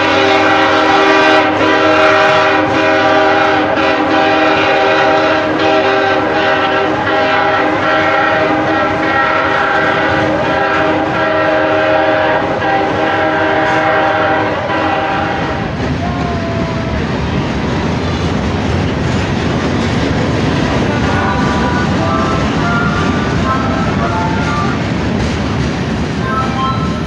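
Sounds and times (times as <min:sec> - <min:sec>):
freight train clattering over rail joints: 0:00.0 - 0:27.0.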